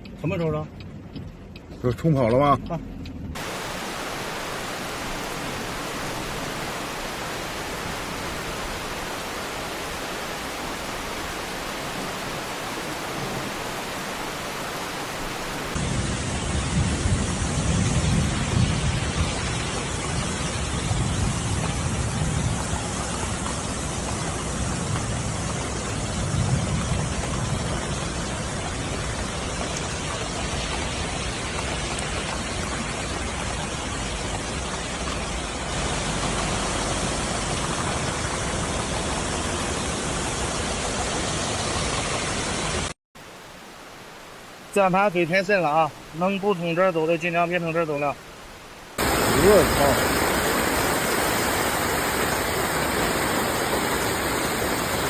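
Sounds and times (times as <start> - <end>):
torrential rain: 0.0 - 55.0.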